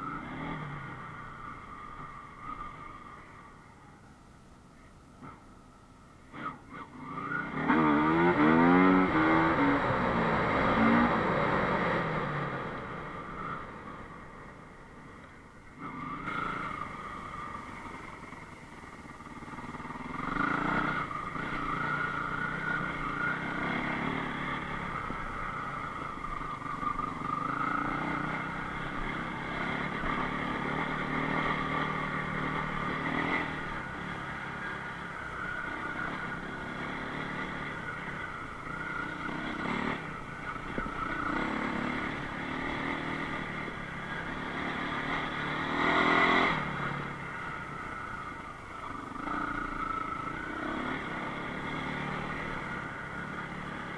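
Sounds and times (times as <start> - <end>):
motorcycle engine revving: 0.0 - 3.7, 6.2 - 53.9.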